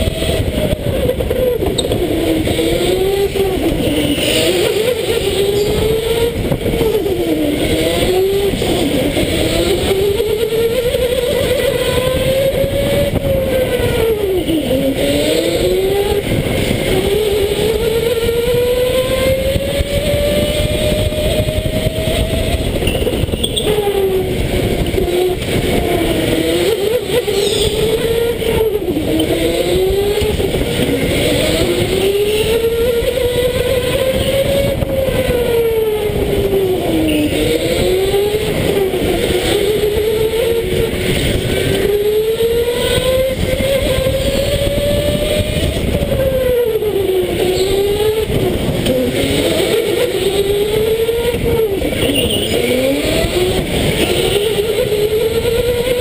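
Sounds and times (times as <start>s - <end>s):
electric go-kart motor whining: 0.0s - 56.0s.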